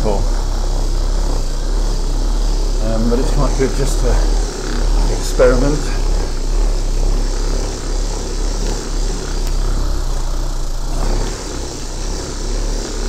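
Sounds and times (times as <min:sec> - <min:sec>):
electric buffing machine running: 0:00.0 - 0:13.0
polishing mop rubbing on wall: 0:00.0 - 0:13.0.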